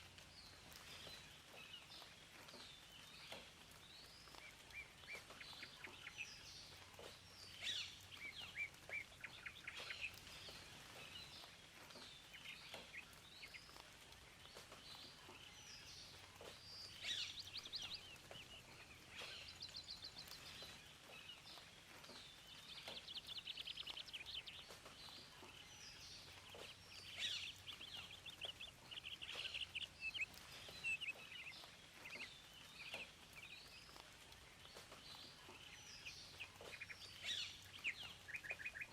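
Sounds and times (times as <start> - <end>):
faint steady hiss: 0.0 - 38.9
wild birds singing: 0.0 - 38.9.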